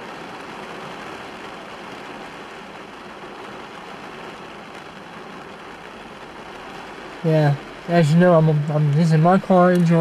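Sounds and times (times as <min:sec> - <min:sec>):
heavy rain on a car: 0:00.0 - 0:10.0.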